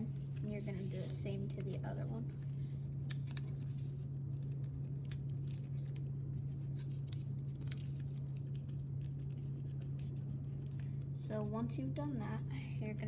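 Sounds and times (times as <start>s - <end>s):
paper rustling and crinkling: 0.0s - 10.9s
steady low hum: 0.0s - 13.0s.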